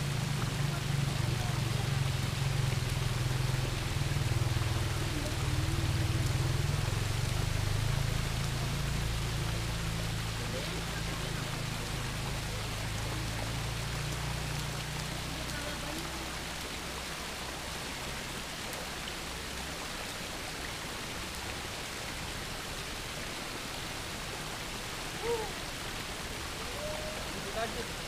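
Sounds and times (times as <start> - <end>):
river water babbling: 0.0 - 28.0.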